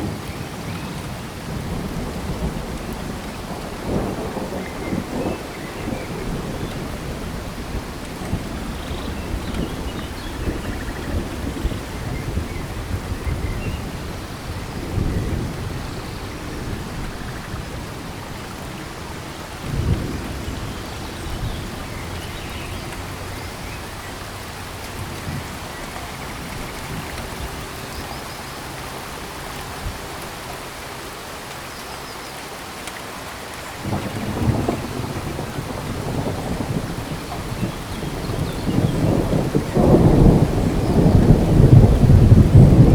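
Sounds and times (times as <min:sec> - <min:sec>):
low thunder rumbles: 0:00.0 - 0:28.2, 0:33.8 - 0:42.9
steady rain falling: 0:00.0 - 0:42.9.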